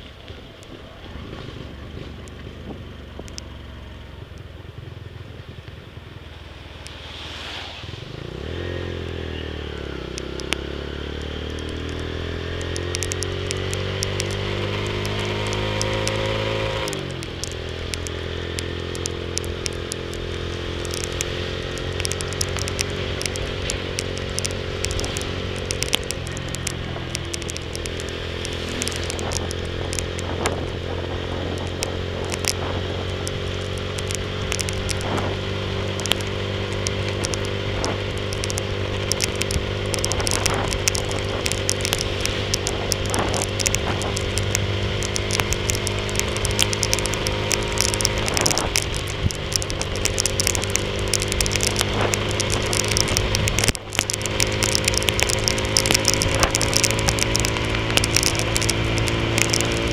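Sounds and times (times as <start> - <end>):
raindrops ticking on camera: 0.0 - 7.2, 7.9 - 59.9
motorcycle engine running: 0.0 - 59.9.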